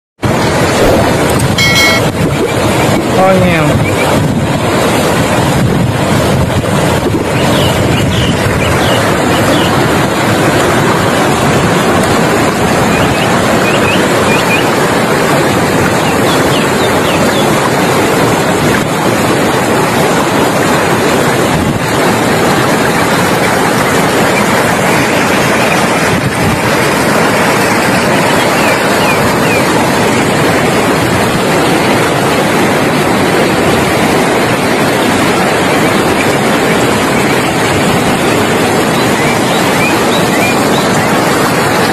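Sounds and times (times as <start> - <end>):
river rushing over rocks: 0.2 - 41.9.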